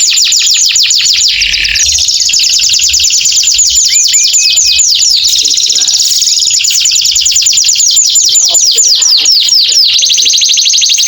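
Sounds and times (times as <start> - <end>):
canary singing fast trill: 0.0 - 11.0.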